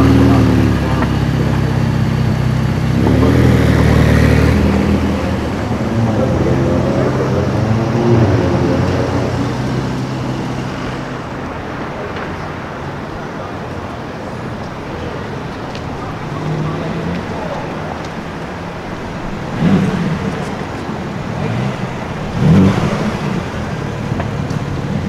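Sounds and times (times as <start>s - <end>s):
car engine accelerating: 0.0s - 25.0s
street traffic: 0.0s - 25.0s.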